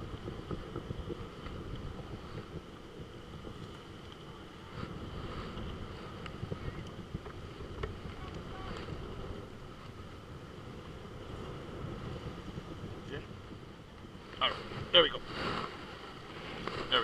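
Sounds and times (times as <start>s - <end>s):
steady low rumble: 0.0s - 17.0s
surf washing: 0.0s - 17.0s
wind buffeting microphone: 0.0s - 17.0s.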